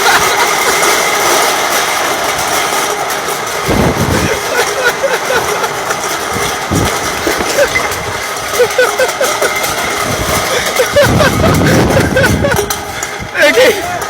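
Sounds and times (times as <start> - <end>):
forklift engine running: 0.0 - 14.0
loud constant background noise: 0.0 - 14.0.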